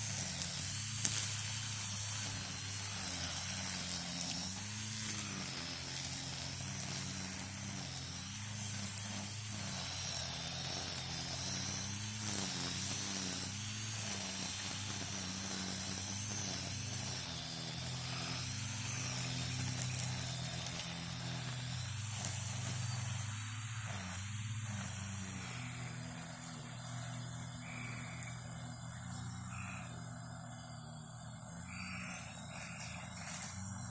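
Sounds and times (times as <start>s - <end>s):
string trimmer running: 0.0s - 33.9s.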